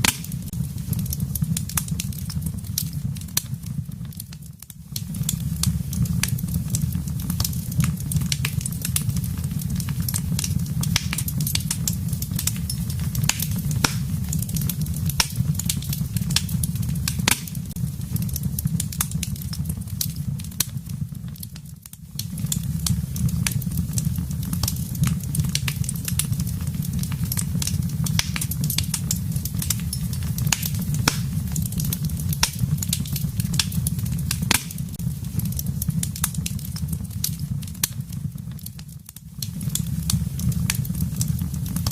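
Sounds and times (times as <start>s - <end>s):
low fire rumble: 0.0s - 41.9s
wood fire crackling and popping: 0.0s - 41.9s.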